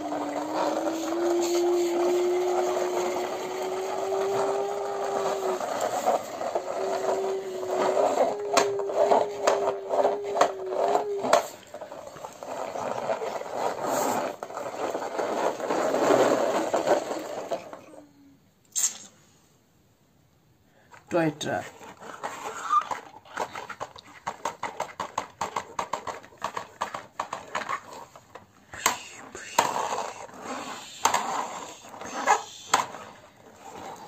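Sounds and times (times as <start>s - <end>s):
toy motor whirring whine: 0.0s - 18.0s, 21.8s - 28.2s, 28.8s - 34.0s
toy scraping on floor: 0.0s - 18.0s, 21.2s - 34.0s.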